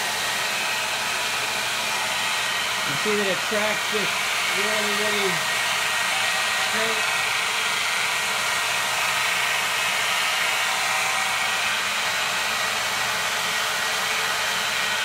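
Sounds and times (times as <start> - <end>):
belt sander whirring: 0.0 - 15.0.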